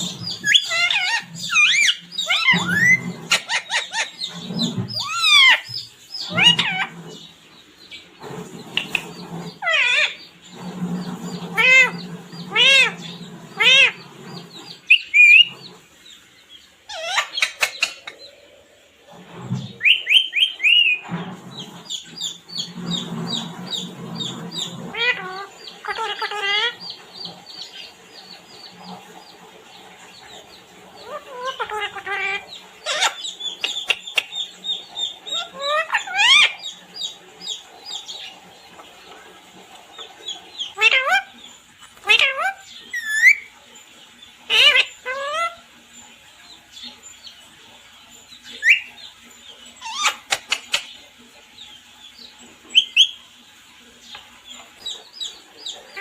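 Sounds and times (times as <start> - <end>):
parrot squawking and chirping: 0.0 - 16.2, 16.8 - 18.3, 19.2 - 29.0, 30.2 - 39.0, 39.9 - 46.1, 48.1 - 51.0, 52.2 - 53.3, 54.1 - 56.0.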